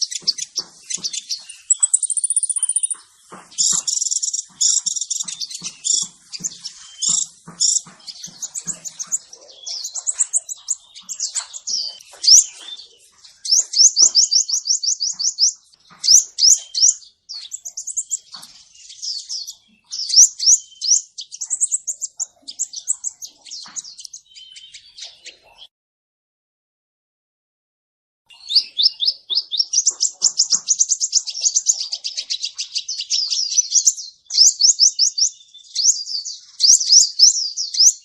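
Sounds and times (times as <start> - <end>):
sunbird chirping and trilling: 0.0 - 25.7, 28.3 - 38.0.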